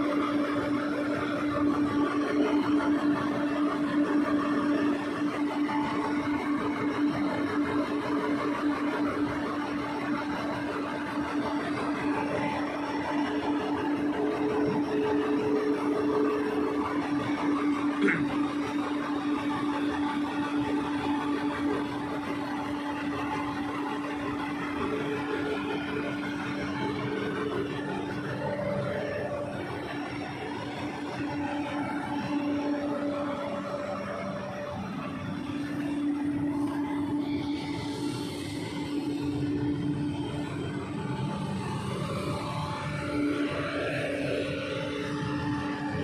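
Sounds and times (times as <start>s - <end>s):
excavator diesel drone: 0.0s - 46.0s.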